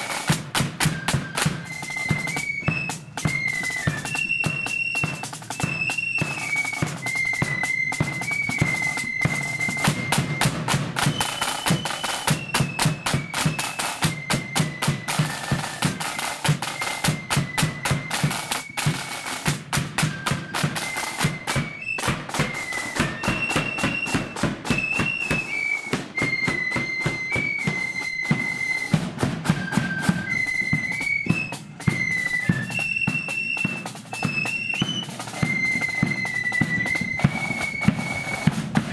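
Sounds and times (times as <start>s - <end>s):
flutes playing high melody: 0.0s - 38.9s
side drums beating rolls: 0.0s - 38.9s.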